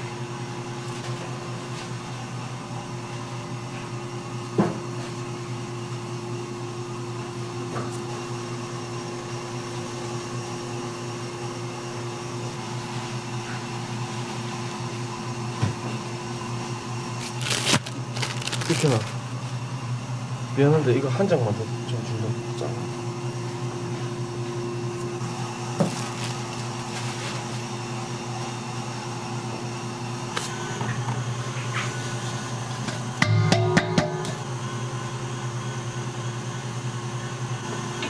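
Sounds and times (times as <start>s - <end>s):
kitchen machinery humming: 0.0s - 38.0s.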